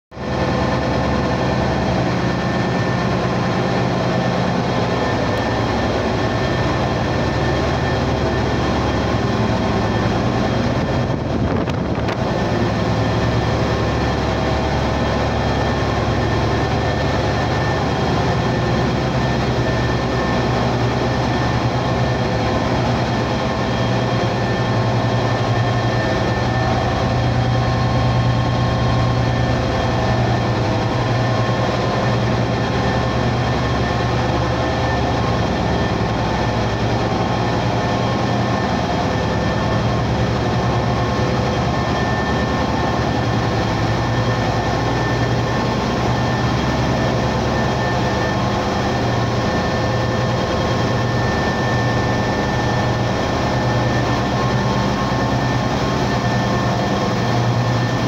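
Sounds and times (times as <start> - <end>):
machinery hum with constant tones: 0.1 - 58.0.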